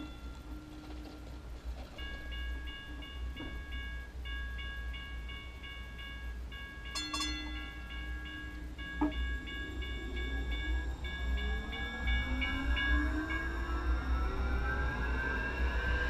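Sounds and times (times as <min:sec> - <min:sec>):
train traction motors whining: 0:00.0 - 0:16.0.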